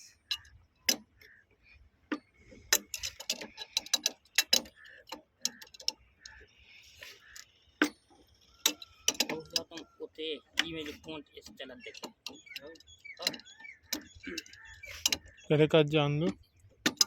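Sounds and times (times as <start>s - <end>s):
metallic clicks and knocks: 0.0s - 1.4s, 2.0s - 17.0s.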